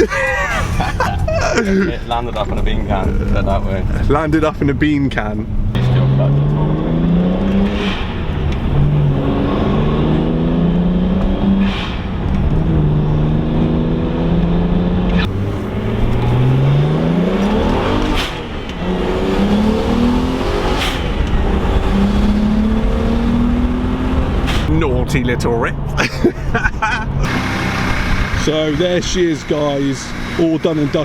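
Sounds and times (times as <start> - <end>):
car engine accelerating hard: 0.0 - 31.0.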